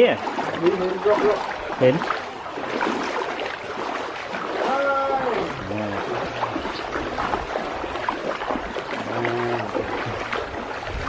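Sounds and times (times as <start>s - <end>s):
water splashing around kayaks: 0.0s - 11.0s.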